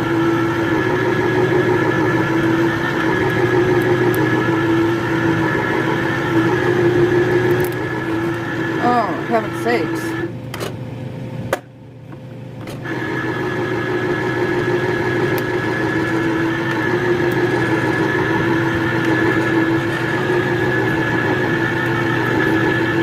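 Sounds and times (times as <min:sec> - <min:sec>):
can opener motor humming: 0:00.0 - 0:10.7, 0:12.1 - 0:23.0.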